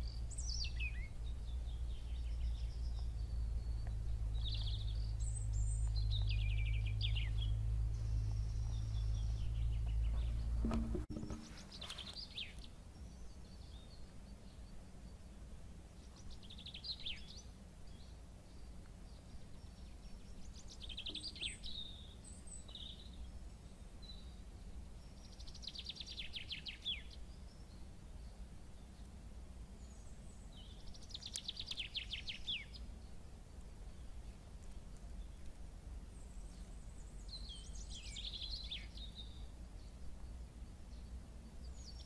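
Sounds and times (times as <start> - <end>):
low background noise: 0.0 - 42.0.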